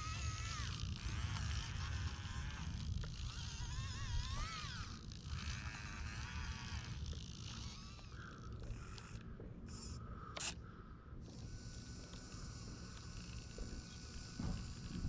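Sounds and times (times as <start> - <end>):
electric motor whine: 0.0 - 10.6, 11.2 - 15.0.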